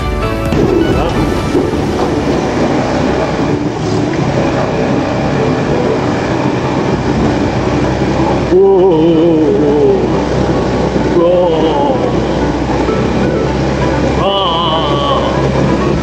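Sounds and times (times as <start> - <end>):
atv engine running: 0.0 - 16.0
rattle over rough ground: 0.3 - 16.0.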